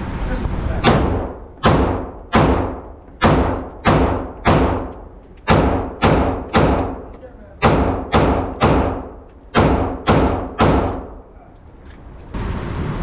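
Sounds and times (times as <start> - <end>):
echoing gunshots: 0.8 - 11.2.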